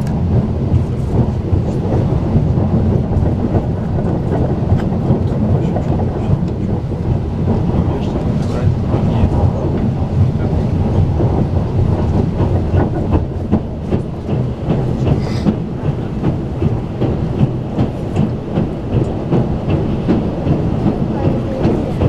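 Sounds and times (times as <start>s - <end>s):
train rumble from inside carriage: 0.0s - 22.0s
wheels clacking over rail joints: 0.0s - 22.0s.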